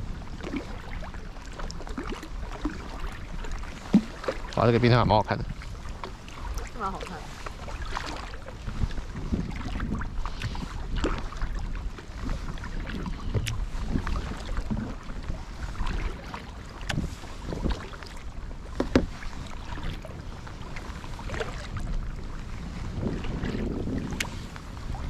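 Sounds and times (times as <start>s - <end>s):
kayak paddles dipping in water: 0.0s - 25.0s
wind rumble on microphone: 0.0s - 25.0s
water splashes and drips: 0.4s - 21.8s.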